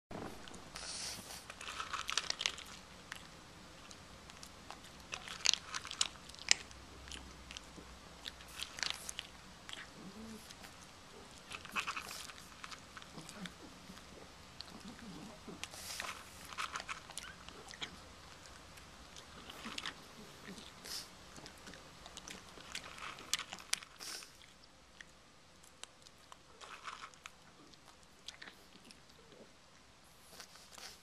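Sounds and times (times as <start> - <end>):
dog crunching something hard: 1.3 - 24.5, 25.7 - 29.0.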